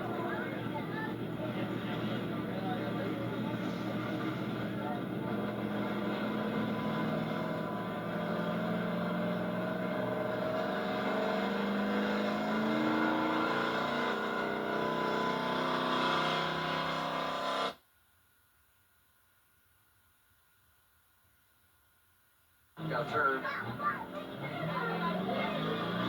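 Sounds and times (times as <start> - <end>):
truck engine at high revs: 0.0 - 17.8, 22.8 - 26.0.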